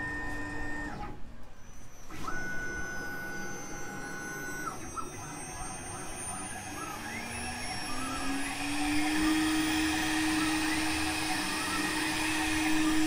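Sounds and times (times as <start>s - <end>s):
spindle motor whine: 0.0s - 13.0s.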